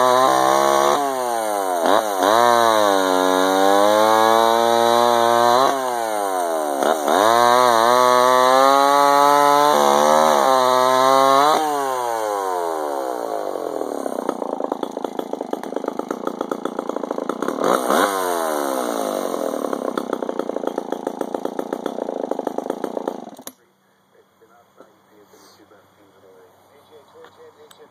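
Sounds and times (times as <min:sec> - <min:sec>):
chainsaw revving and idling: 0:00.0 - 0:23.6.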